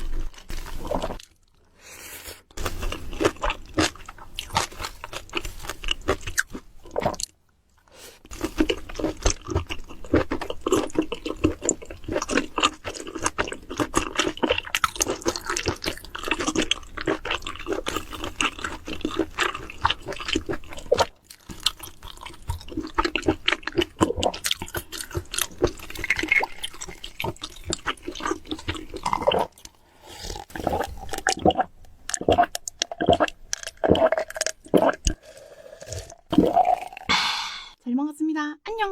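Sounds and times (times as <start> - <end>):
person chewing food: 0.0 - 37.0.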